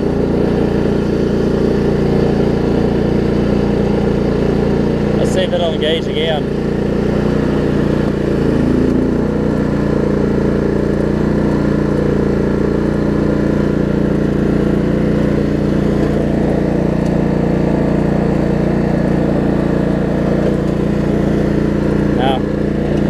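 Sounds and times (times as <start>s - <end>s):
riding mower engine running: 0.0s - 23.0s.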